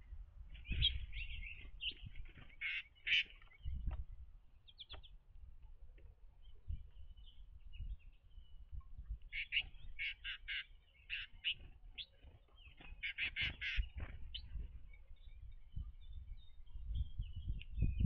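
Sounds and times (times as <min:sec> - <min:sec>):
wind rumble on microphone: 0:00.0 - 0:02.6, 0:03.5 - 0:10.0, 0:11.5 - 0:18.0
songbirds chirping: 0:00.0 - 0:18.0.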